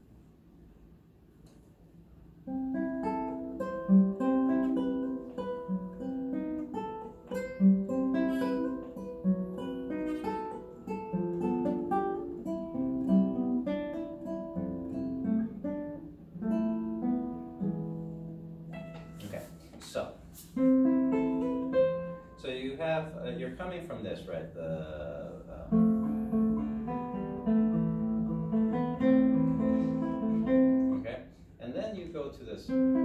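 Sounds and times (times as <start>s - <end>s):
fingerstyle classical guitar: 2.4s - 19.8s, 20.4s - 22.4s, 24.4s - 31.2s, 32.7s - 33.0s.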